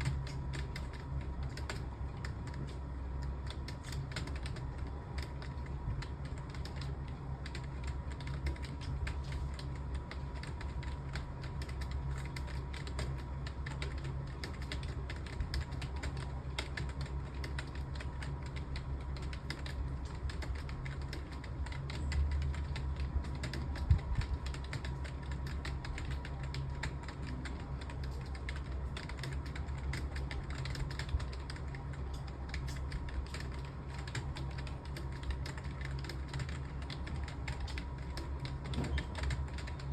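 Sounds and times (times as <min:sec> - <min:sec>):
steady low hum: 0:00.0 - 0:39.9
typing on computer keyboard: 0:00.0 - 0:39.9.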